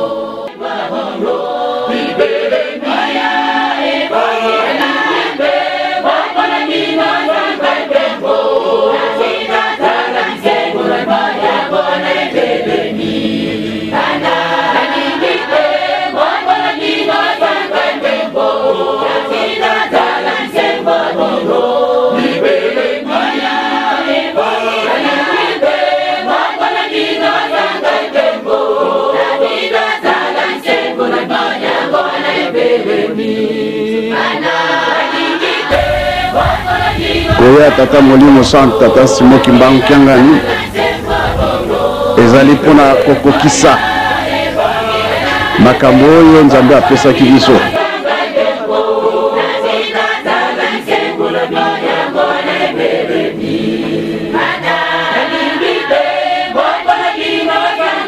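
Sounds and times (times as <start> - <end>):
choir singing gospel song: 0.0 - 58.0.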